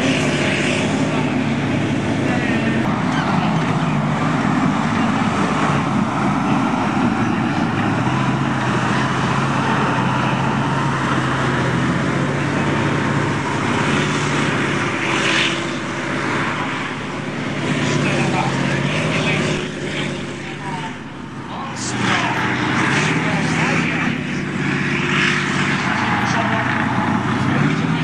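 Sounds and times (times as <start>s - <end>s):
tank diesel engine running: 0.0s - 28.0s.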